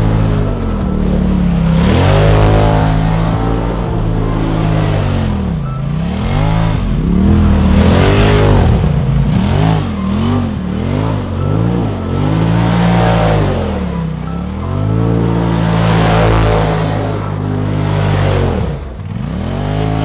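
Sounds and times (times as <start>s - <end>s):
engine revving: 0.0s - 20.0s
tires spinning in snow: 0.0s - 20.0s.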